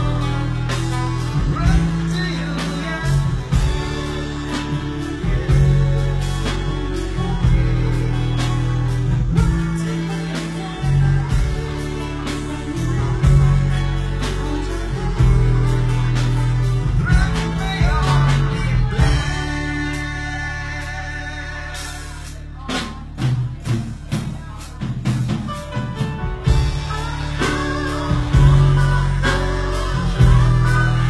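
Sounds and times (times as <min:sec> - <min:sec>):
man singing into a microphone: 0:00.0 - 0:23.3, 0:26.5 - 0:31.0
live pop band playing: 0:00.0 - 0:31.0
low bass notes: 0:00.0 - 0:31.0.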